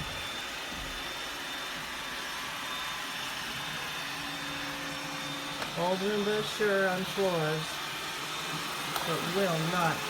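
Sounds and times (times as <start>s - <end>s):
robot vacuum motor and suction hiss: 0.0s - 10.0s.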